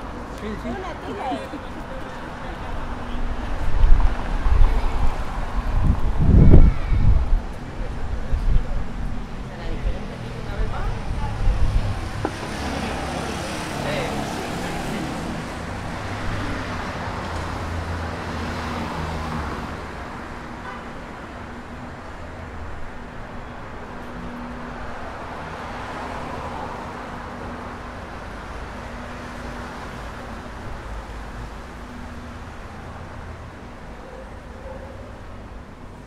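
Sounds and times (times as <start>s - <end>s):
traffic hum: 0.0s - 36.0s
vehicles passing: 0.0s - 36.0s.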